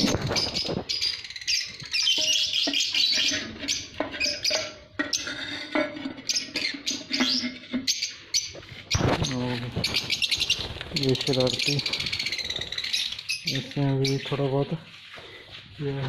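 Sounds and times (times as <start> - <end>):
lovebirds chirping: 0.0 - 15.5.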